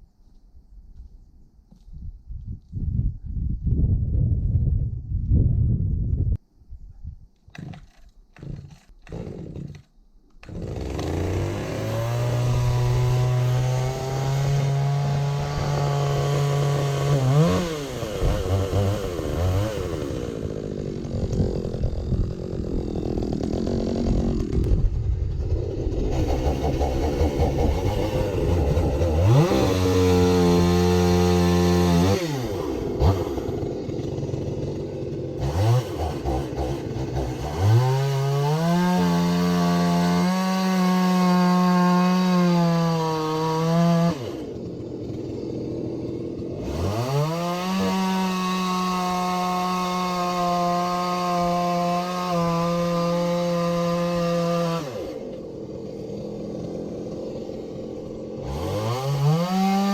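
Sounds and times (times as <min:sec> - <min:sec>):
chainsaw cutting logs: 0:07.4 - 0:59.9.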